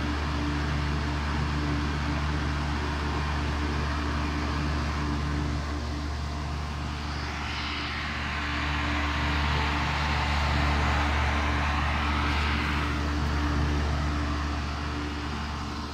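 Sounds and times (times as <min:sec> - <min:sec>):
fan air rushing: 0:00.0 - 0:15.9.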